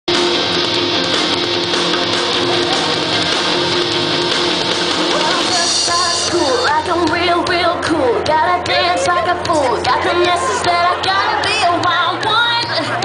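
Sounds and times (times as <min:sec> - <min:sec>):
background guitar music: 0:00.1 - 0:13.0.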